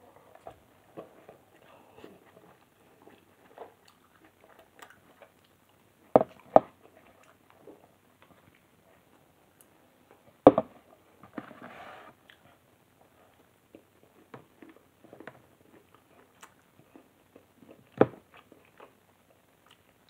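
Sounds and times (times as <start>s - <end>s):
person chewing food: 0.2s - 10.2s, 12.2s - 20.0s.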